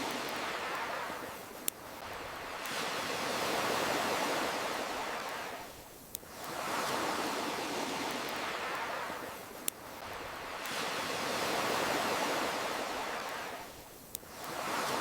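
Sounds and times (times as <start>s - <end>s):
ocean waves surging: 0.0s - 5.8s, 6.4s - 15.0s.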